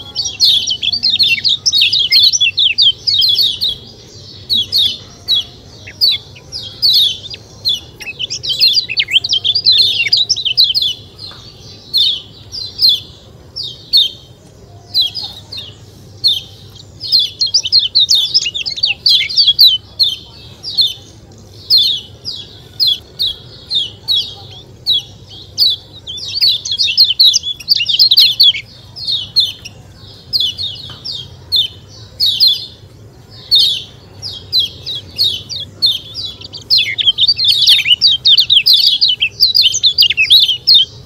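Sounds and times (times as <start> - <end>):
songbird chirping fast: 0.0 - 41.0.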